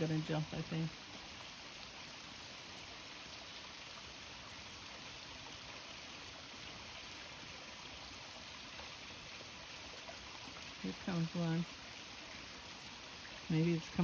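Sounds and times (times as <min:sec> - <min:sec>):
waterfall splashing: 0:00.0 - 0:14.0.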